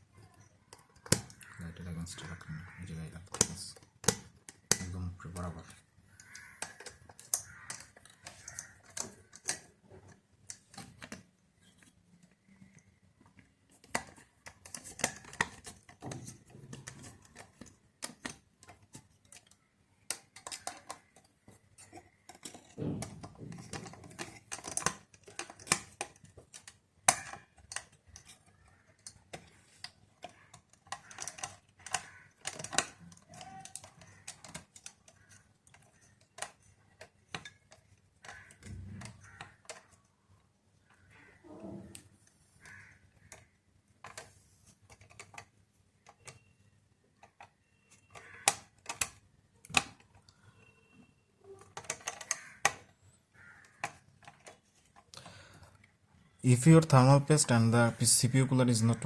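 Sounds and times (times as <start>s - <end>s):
screwdriver and parts clicking: 0.1s - 40.1s, 41.9s - 50.7s, 51.5s - 52.9s, 53.5s - 55.4s.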